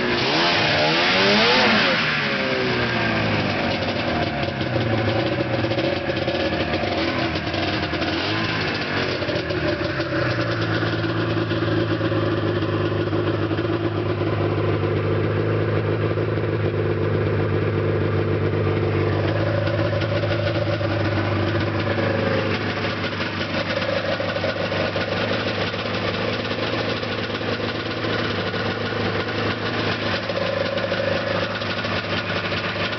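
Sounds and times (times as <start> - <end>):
snowmobile engine running: 0.0 - 32.9.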